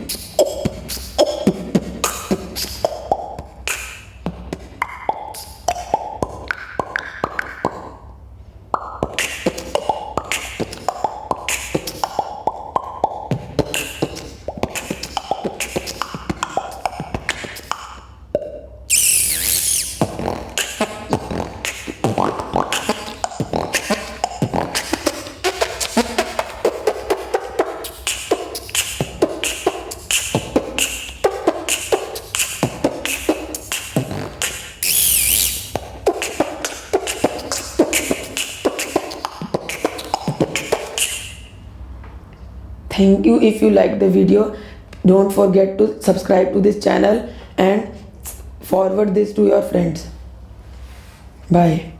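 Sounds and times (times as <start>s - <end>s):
boy beatboxing: 0.0s - 41.9s, 42.9s - 50.1s.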